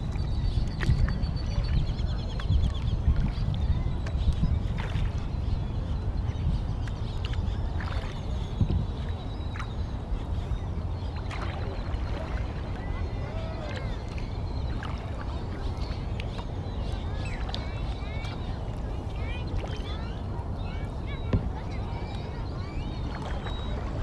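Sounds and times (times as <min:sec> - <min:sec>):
water rumble: 0:00.0 - 0:24.0
wind noise: 0:00.0 - 0:24.0.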